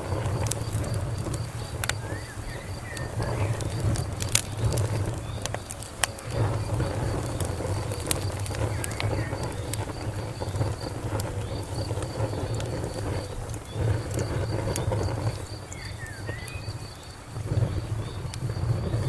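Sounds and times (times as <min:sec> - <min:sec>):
cricket chirping: 0:00.0 - 0:19.0
wood fire crackling and popping: 0:00.0 - 0:19.0.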